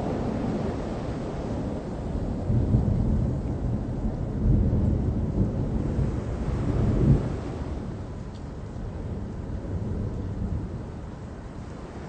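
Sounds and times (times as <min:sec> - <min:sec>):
rolling thunder rumbling: 0:00.0 - 0:11.8.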